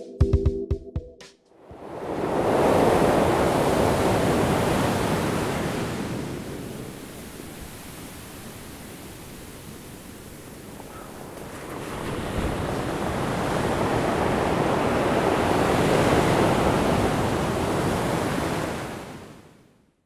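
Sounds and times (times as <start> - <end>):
ocean waves rushing: 1.6 - 19.5.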